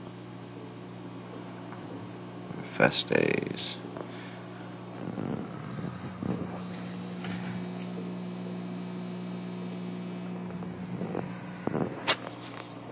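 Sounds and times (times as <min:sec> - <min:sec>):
electrical mains hum: 0:00.0 - 0:12.9.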